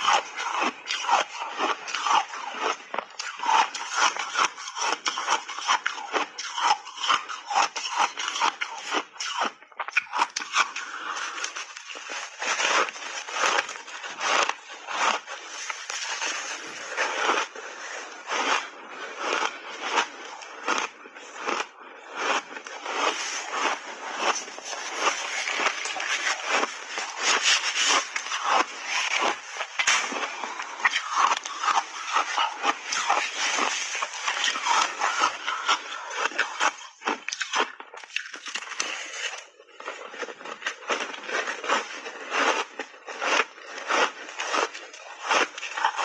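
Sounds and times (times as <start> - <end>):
ice being chewed crunching: 0.0 - 46.0.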